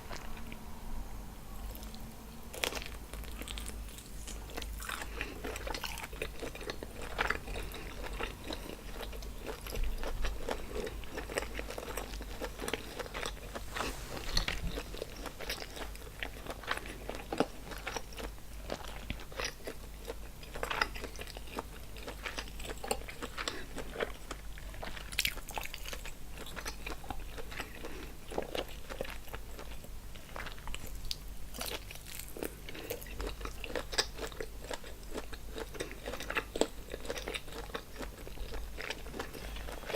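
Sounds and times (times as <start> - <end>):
wet chewing and crunching: 0.0 - 0.6, 1.7 - 39.9.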